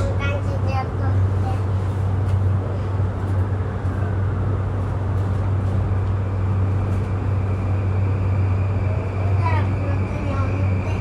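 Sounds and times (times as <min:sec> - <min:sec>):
train interior hum and rumble: 0:00.0 - 0:11.0.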